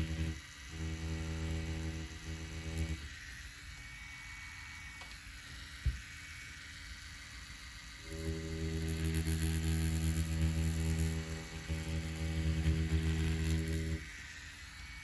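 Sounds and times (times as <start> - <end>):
tattoo machine running: 0.0 - 15.0.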